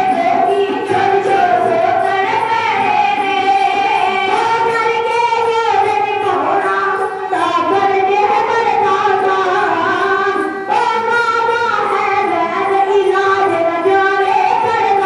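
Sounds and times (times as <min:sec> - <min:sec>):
devotional singing voices: 0:00.0 - 0:15.0.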